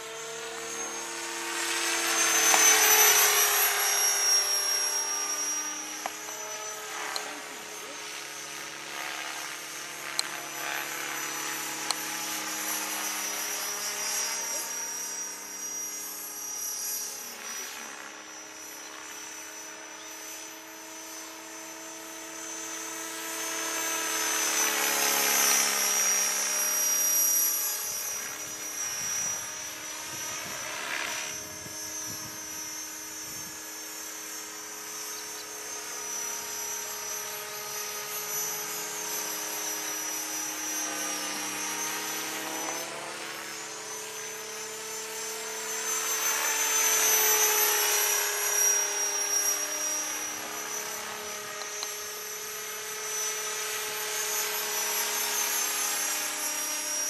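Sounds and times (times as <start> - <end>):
model helicopter whine and rotor buzz: 0.0 - 57.0.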